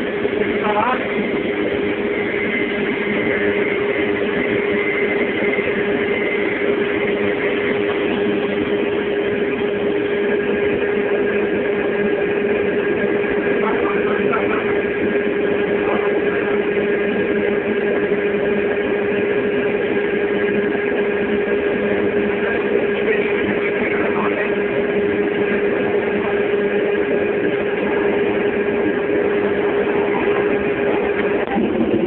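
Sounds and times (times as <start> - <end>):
motor running drone: 0.0 - 32.0.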